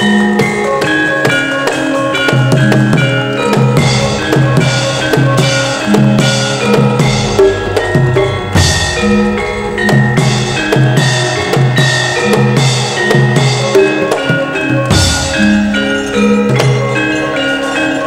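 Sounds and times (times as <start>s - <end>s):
drum strokes: 0.0s - 17.2s
struck metallophone notes: 0.0s - 18.0s
loud metallic clash: 1.7s - 17.0s.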